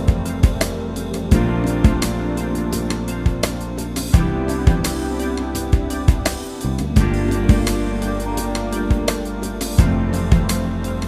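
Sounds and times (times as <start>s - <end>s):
guitar music with percussion: 0.0s - 11.0s.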